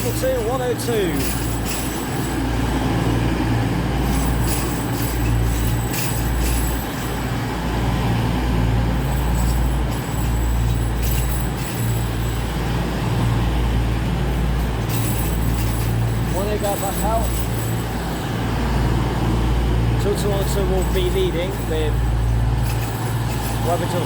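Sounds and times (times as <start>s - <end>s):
train engine drone: 0.0s - 24.0s.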